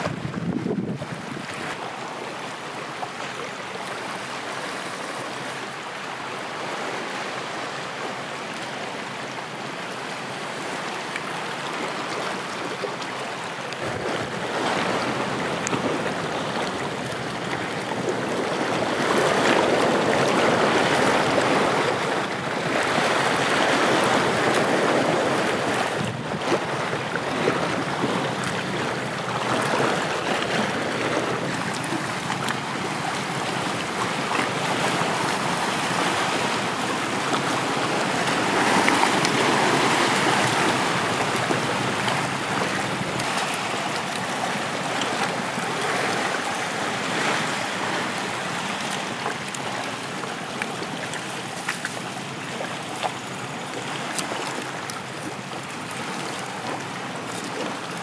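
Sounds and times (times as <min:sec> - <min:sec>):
small waves lapping: 0:00.0 - 0:58.0
water splashing around wading person: 0:00.0 - 0:58.0.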